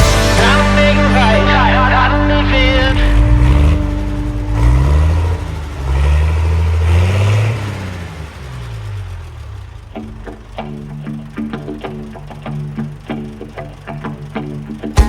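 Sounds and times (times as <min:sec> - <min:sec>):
plucked guitar music: 0:00.0 - 0:07.5, 0:09.8 - 0:15.0
vehicle engine accelerating: 0:00.0 - 0:15.0.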